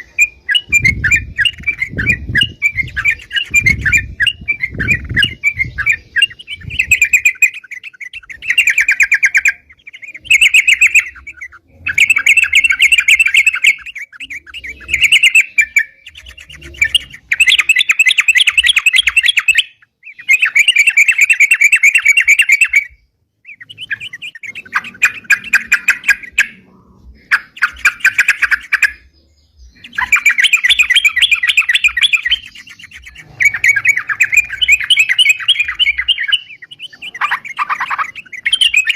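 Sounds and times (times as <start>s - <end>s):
bird singing chattering phrases: 0.0s - 38.9s.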